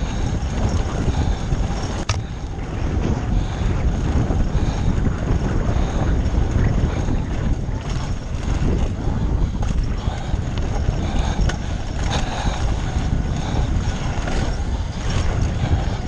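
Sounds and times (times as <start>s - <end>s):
bike tyres rattling on gravel: 0.0s - 16.0s
wind buffeting microphone: 0.0s - 16.0s.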